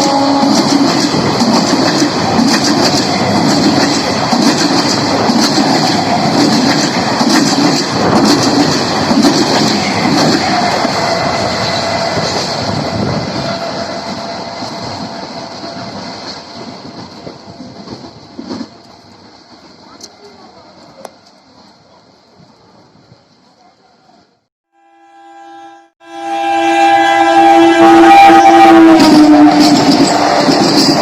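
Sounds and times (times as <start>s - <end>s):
electric train passing: 0.0s - 22.0s, 24.8s - 31.0s.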